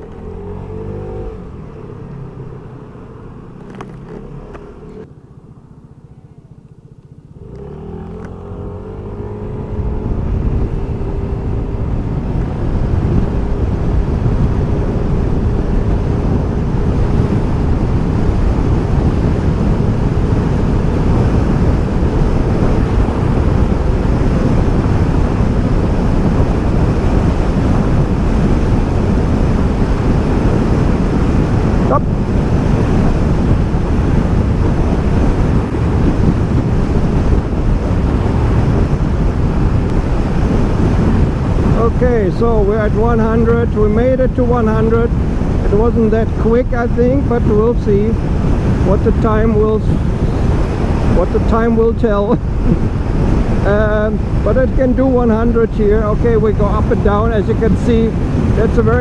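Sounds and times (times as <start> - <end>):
scooter engine accelerating: 0.0 - 54.4
wind rush: 7.4 - 59.0.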